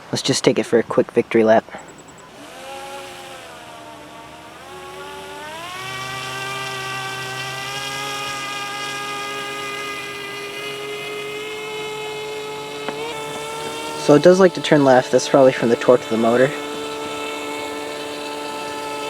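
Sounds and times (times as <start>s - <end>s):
electric motor whining: 1.8s - 19.0s.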